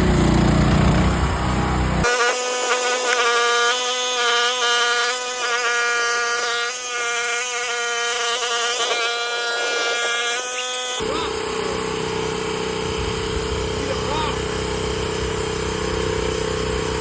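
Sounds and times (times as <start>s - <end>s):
skid steer buzzing whine: 0.0s - 17.0s.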